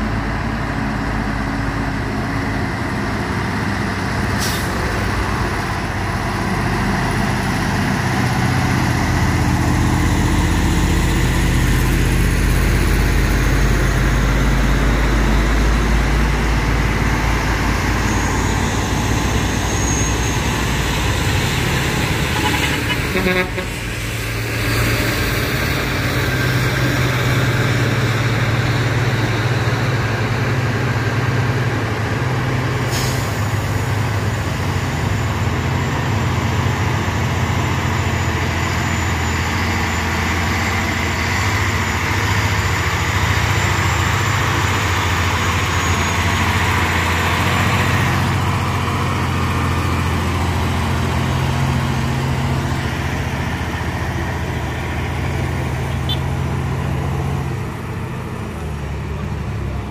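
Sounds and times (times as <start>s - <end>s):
road noise: 0.0s - 59.9s
truck engine droning: 0.0s - 59.9s.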